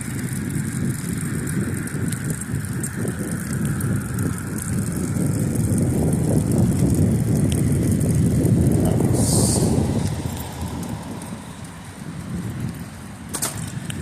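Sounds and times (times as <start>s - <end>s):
road traffic noise: 0.0s - 14.0s
wind buffeting microphone: 0.0s - 14.0s.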